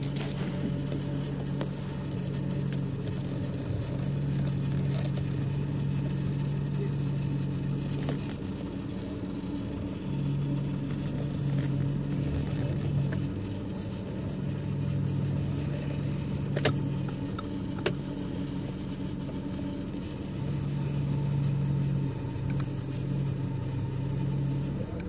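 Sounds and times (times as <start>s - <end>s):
power steering low hum: 0.0s - 25.0s.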